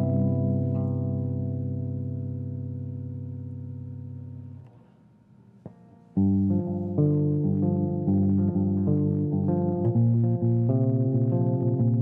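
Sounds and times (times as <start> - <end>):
electric guitar chord ringing: 0.0 - 4.6, 5.6 - 12.0.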